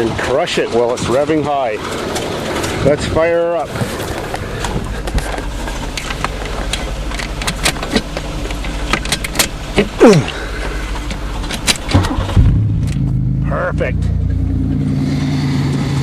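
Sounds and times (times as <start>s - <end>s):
engine starting clicks and knocks: 0.0s - 13.2s
car engine running: 0.0s - 16.0s
low engine hum: 0.0s - 16.0s
starter whine: 0.0s - 16.0s.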